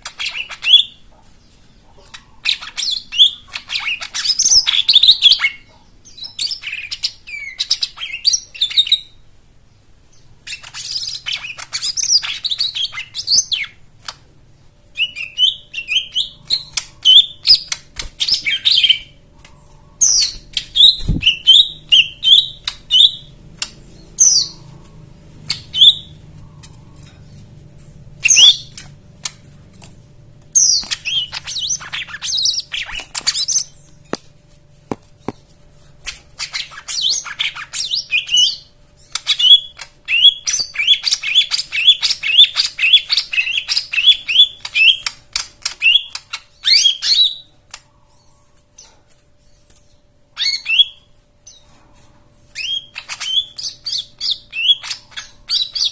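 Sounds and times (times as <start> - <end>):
bird singing chattering song: 0.0 - 29.6, 30.5 - 34.2, 35.2 - 51.7, 52.5 - 55.9.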